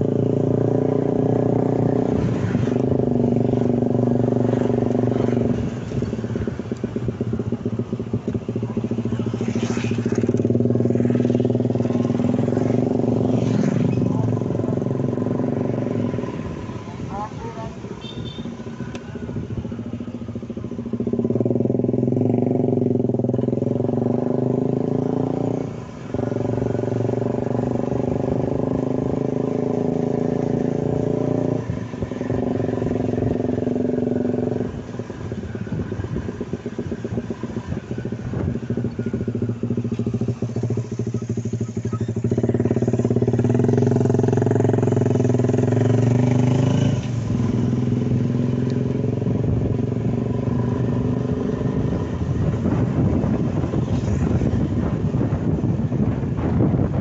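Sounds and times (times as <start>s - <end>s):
scooter engine running: 0.0s - 57.0s.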